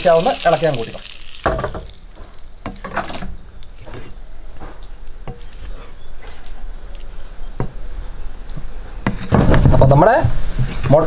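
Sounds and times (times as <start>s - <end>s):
faint sizzle: 0.0s - 9.0s.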